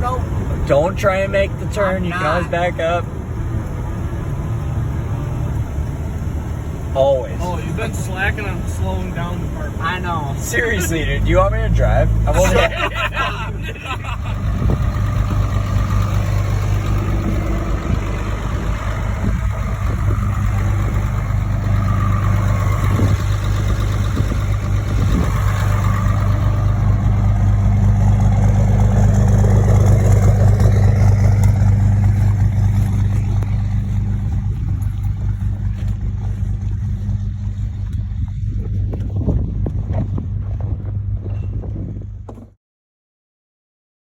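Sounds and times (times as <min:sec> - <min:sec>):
road noise: 0:00.0 - 0:42.6
truck engine hum: 0:00.0 - 0:42.6.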